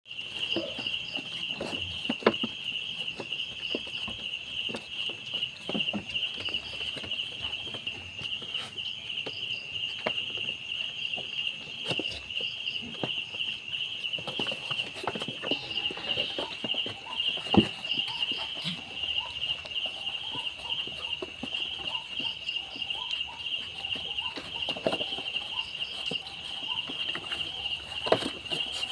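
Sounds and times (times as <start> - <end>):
crickets chirping: 0.1 - 28.9.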